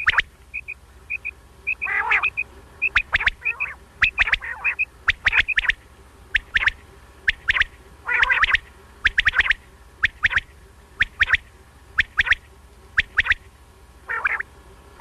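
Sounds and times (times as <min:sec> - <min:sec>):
short raspy bird call: 0:00.0 - 0:14.5
quail calling: 0:00.0 - 0:14.6.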